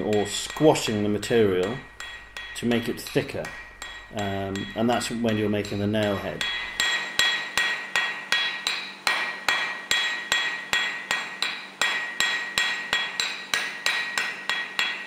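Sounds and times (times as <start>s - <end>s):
hammer striking metal on anvil: 0.0s - 15.0s.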